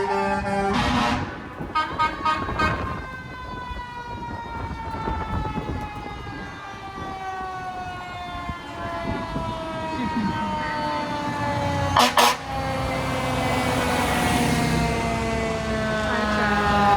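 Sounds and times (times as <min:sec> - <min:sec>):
siren wail falling in pitch: 0:00.0 - 0:16.9
trucks rumbling past: 0:00.0 - 0:16.9.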